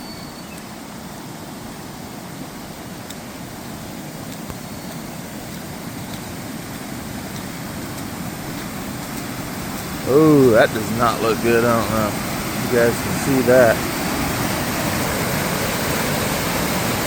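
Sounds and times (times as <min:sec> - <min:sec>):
rushing floodwater: 0:00.0 - 0:17.0.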